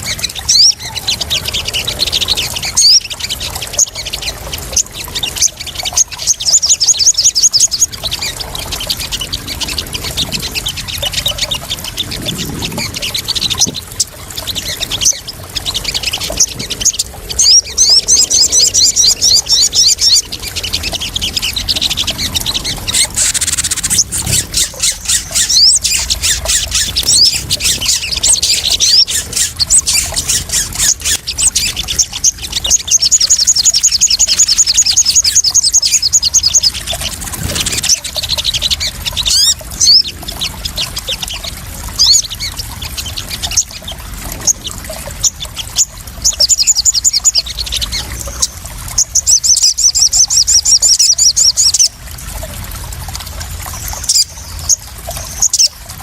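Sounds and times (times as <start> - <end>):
birds chirping and trilling: 0.0 - 52.0, 53.4 - 56.0.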